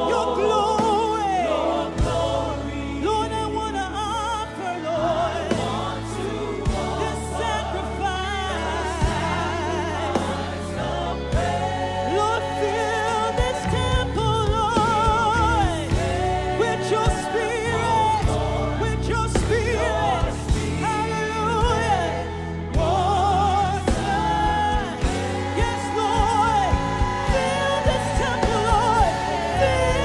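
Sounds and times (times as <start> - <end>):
band playing: 0.0 - 30.0
bass notes: 0.0 - 30.0
choir singing with vibrato: 0.0 - 30.0.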